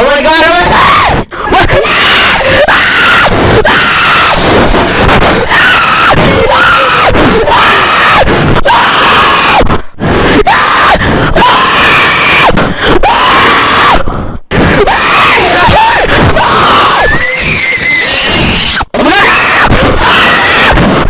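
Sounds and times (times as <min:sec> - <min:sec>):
people screaming: 0:00.5 - 0:14.0, 0:14.6 - 0:21.0.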